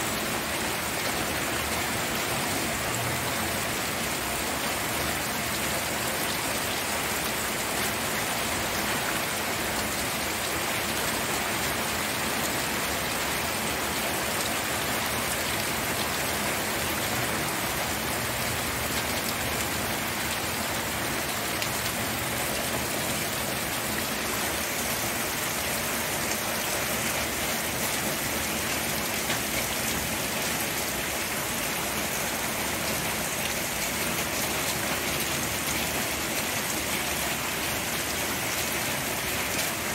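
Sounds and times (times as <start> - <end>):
rain pattering: 0.1 - 39.9.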